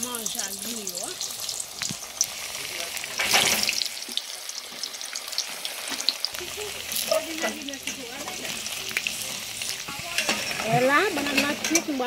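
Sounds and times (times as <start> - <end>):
slices sizzling in hot oil: 0.0 - 12.0.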